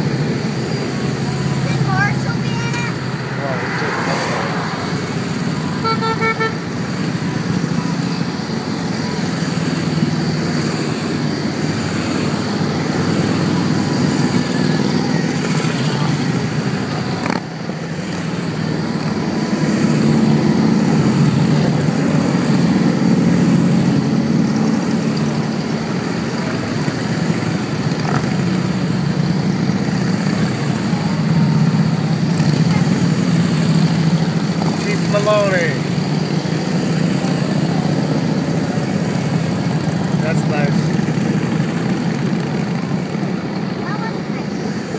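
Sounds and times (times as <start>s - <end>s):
motorcycles riding past: 0.0s - 44.9s.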